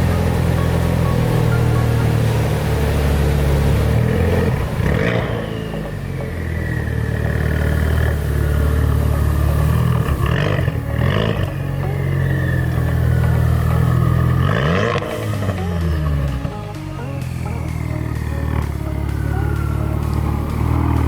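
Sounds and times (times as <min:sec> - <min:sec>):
loud car engine exhaust: 0:00.0 - 0:21.0
throttle blips: 0:00.0 - 0:21.0.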